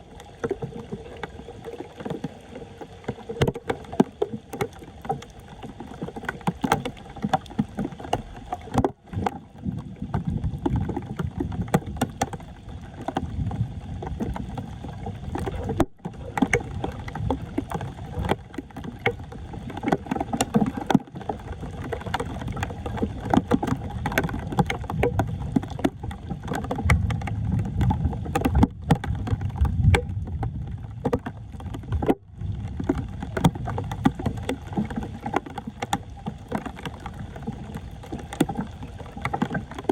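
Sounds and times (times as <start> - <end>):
floodwater sloshing and splashing: 0.0 - 39.9.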